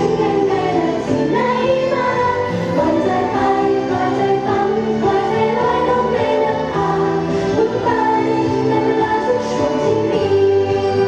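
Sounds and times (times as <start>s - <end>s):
pop music over loudspeakers: 0.0s - 11.0s
women singing into microphones: 0.0s - 11.0s.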